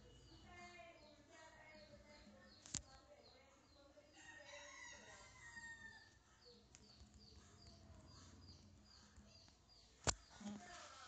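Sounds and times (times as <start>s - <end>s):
distant small bird chirping: 0.0s - 11.0s.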